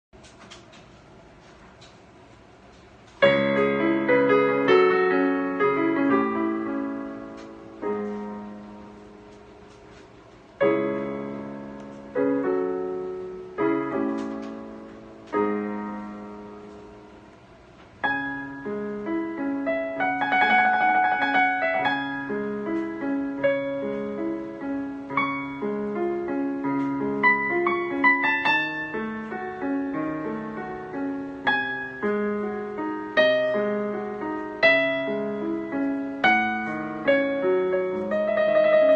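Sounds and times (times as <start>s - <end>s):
piano chords: 3.2s - 38.9s.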